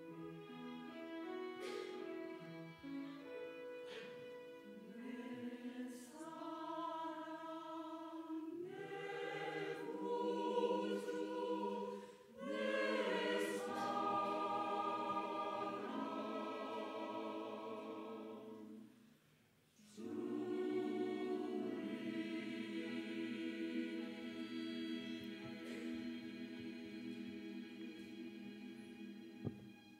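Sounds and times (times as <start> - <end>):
mixed choir singing: 4.8 - 18.9, 19.8 - 29.8.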